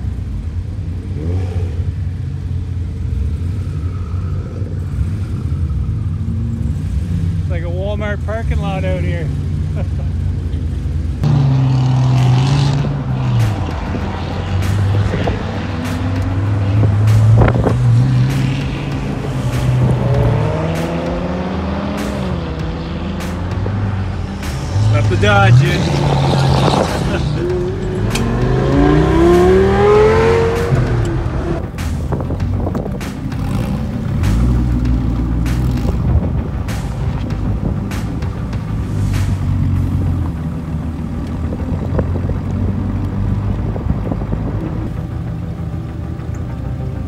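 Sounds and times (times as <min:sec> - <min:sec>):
sports car engines idling: 0:00.0 - 0:47.0.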